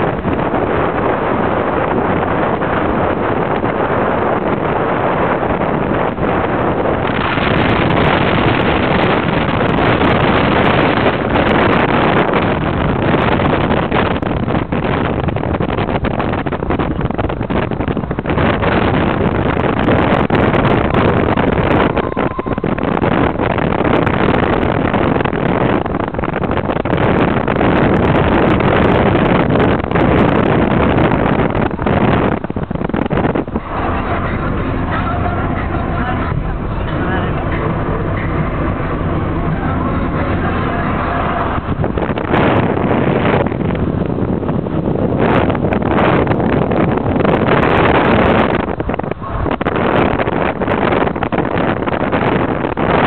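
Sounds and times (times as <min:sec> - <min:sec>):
road and engine noise: 0:00.0 - 0:53.0
wind buffeting microphone: 0:00.0 - 0:53.0.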